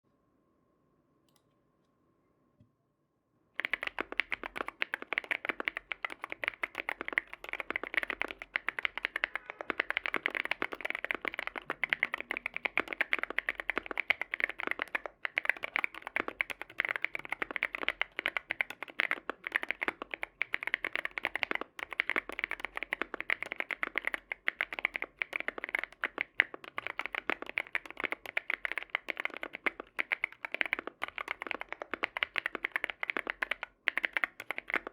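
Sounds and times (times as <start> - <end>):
mechanical keyboard typing: 3.6 - 34.9.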